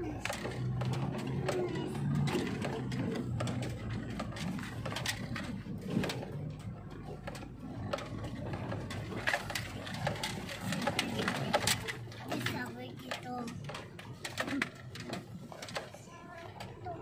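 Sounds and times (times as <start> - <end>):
cabin clicks and rattles: 0.0 - 17.0
car engine hum: 0.0 - 17.0.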